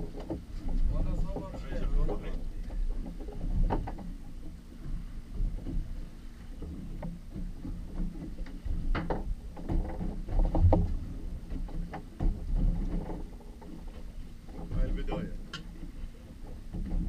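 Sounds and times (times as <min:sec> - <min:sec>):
low uneven rumble: 0:00.0 - 0:17.0
water lapping against hull: 0:00.0 - 0:17.0.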